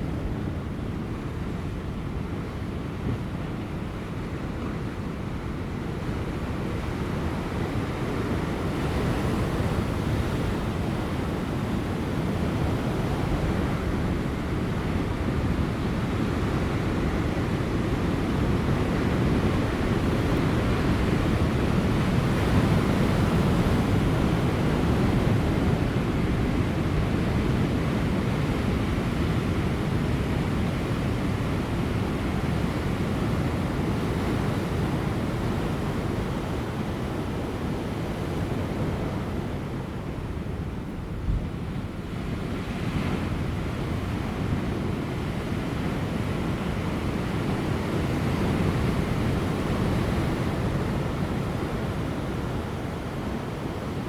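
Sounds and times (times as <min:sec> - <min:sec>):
light wind: 0:00.0 - 0:54.0.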